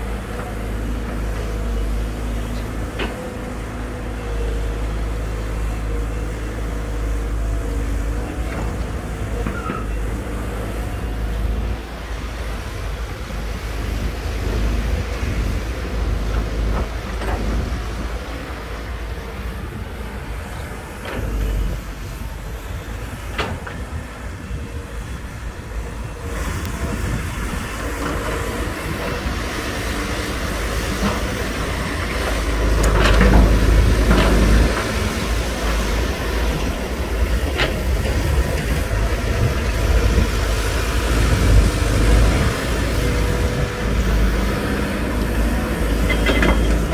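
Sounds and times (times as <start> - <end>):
excavator diesel engine rumbling: 0.0 - 46.9.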